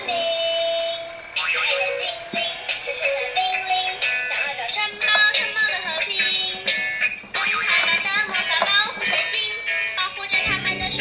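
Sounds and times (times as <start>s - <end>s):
tinny electronic toy melodies: 0.0s - 11.0s.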